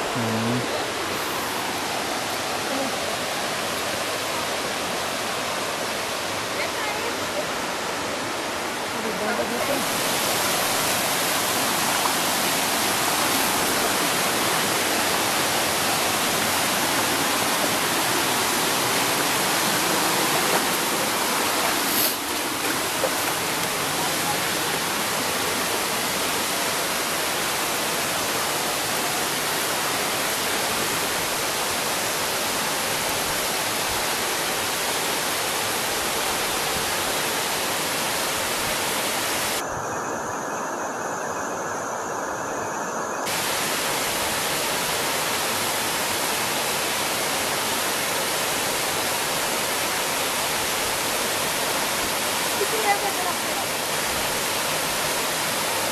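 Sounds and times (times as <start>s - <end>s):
waterfall rushing: 0.0s - 39.6s, 43.2s - 55.9s.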